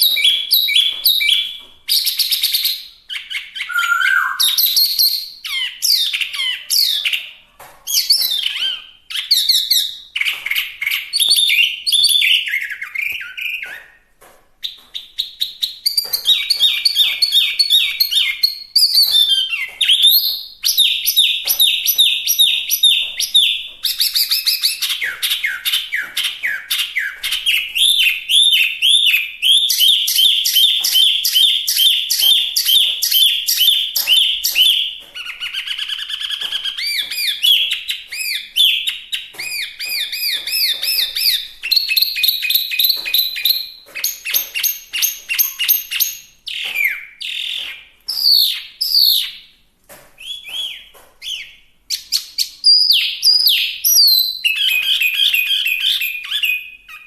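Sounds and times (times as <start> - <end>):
songbird singing: 0.0 - 49.4.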